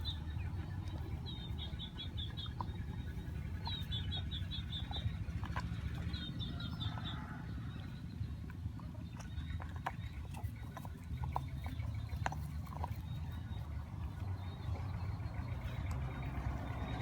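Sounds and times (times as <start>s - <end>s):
dogs gnawing bone: 0.0s - 17.0s
small bird singing: 0.0s - 17.0s.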